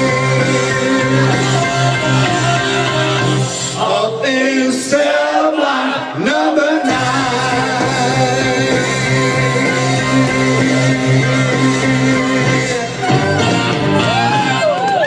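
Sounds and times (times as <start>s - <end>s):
guitar: 0.0s - 4.2s, 6.0s - 15.0s.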